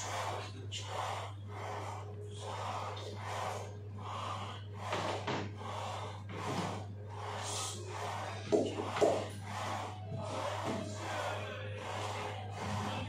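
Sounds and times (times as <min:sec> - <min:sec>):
man breathing hard: 0:00.0 - 0:13.0
steady low hum: 0:00.0 - 0:13.0.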